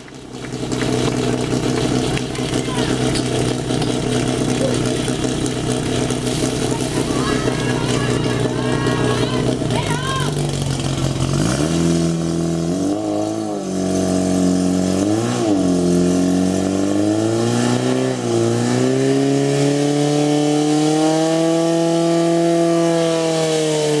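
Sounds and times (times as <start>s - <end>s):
pump engine running at high revs: 0.0s - 24.0s.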